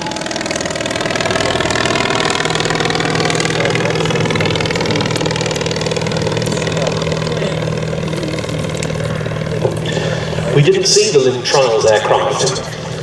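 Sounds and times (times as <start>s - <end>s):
small aircraft engine droning: 0.0s - 13.0s.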